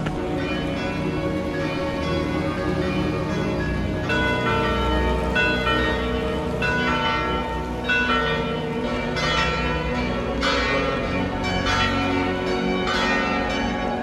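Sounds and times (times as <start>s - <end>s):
bells ringing: 0.0s - 14.0s
steady low drone: 0.0s - 14.0s.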